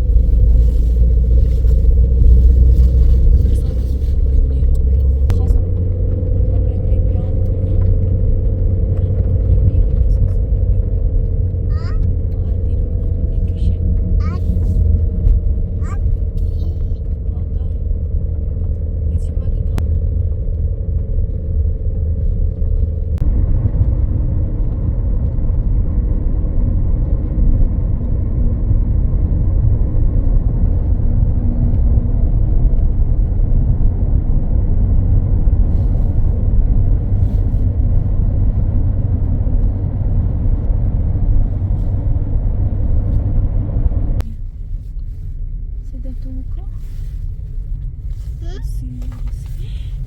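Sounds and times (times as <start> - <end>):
vehicle engine low rumble: 0.0 - 50.0.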